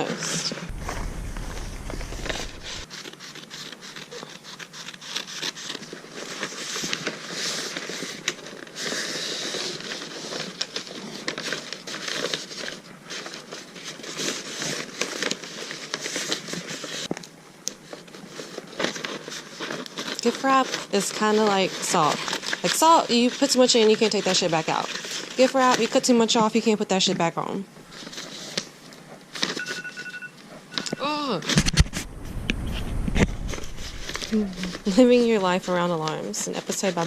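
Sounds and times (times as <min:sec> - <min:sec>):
wrapping paper rustling and crinkling: 0:00.4 - 0:27.1, 0:27.8 - 0:29.7, 0:34.2 - 0:37.0.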